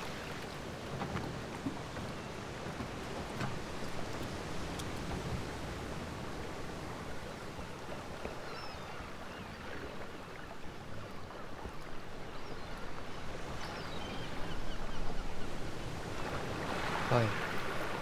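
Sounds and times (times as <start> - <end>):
water: 0.0 - 18.0
wind: 0.0 - 18.0.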